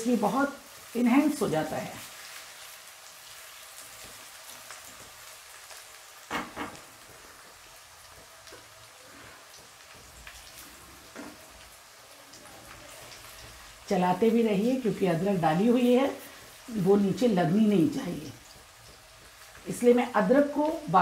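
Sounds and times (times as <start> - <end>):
aromatics sizzling in hot oil: 0.0 - 21.0.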